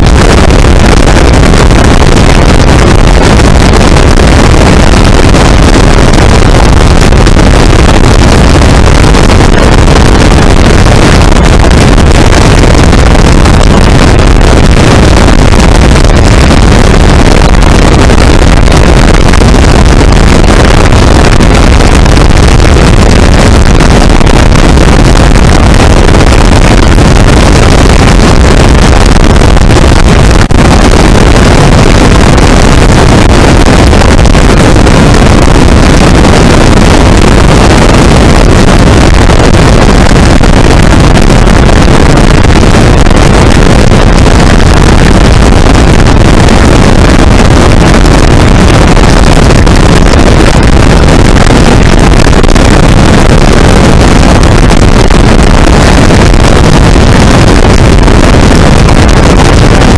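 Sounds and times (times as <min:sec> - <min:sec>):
wind noise: 0:00.0 - 0:59.9.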